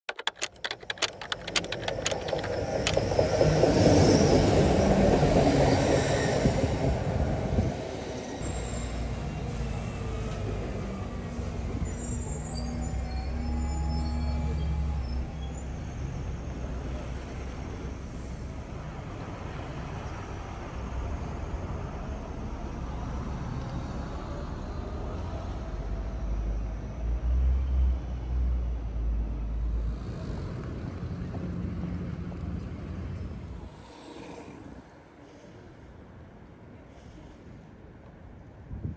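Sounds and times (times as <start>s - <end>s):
distant road traffic: 0.1s - 38.8s.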